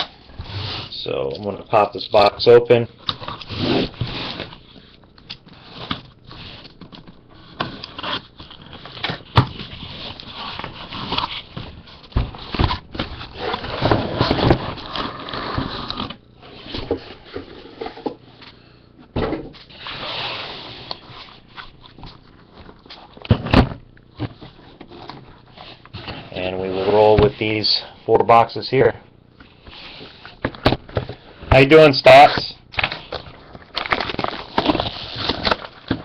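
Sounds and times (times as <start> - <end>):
cardboard scraping and rustling: 3.1 - 4.9, 5.5 - 18.3, 19.2 - 27.8, 29.6 - 31.2, 32.1 - 36.0.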